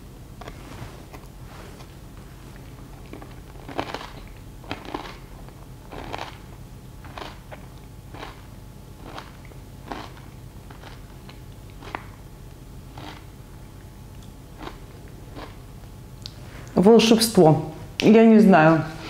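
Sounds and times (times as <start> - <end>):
person chewing: 0.4 - 16.4.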